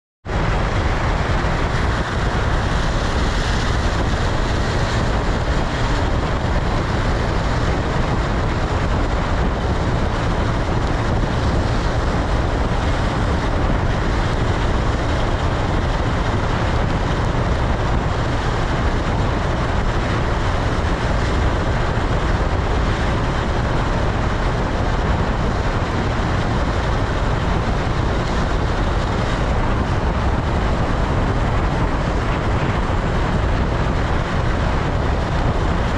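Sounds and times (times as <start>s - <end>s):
motorcycle engine: 0.2s - 35.9s
tyres on wet road: 0.2s - 35.9s
wind on microphone: 0.2s - 35.9s.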